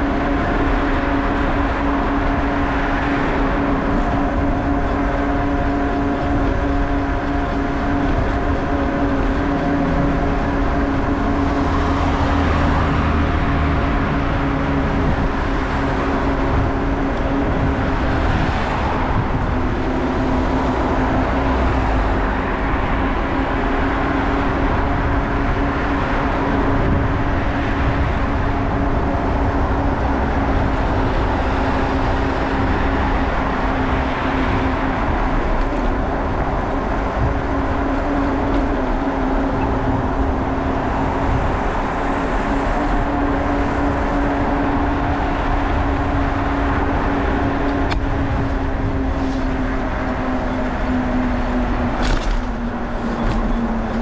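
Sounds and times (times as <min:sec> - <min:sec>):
bicycle ride noise: 0:00.0 - 0:54.0
wind on microphone: 0:00.0 - 0:54.0.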